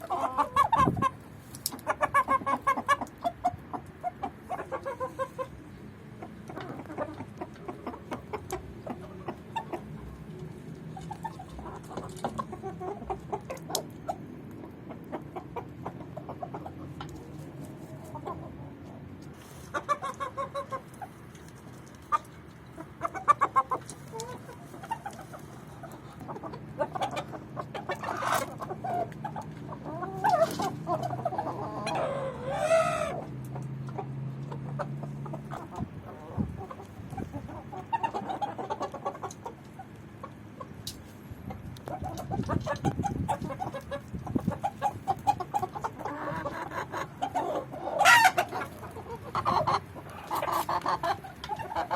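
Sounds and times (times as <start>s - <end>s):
chickens clucking: 0.0s - 51.9s.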